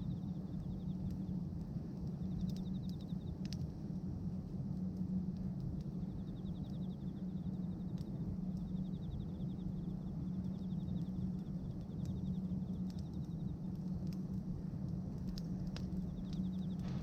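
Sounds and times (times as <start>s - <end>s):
bonfire crackling and popping: 0.0s - 17.0s
fire low rumble: 0.0s - 17.0s.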